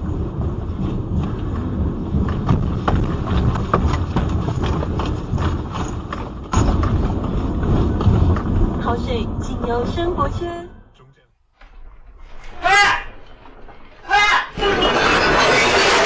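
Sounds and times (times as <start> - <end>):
heavy low rumble: 0.0 - 15.1.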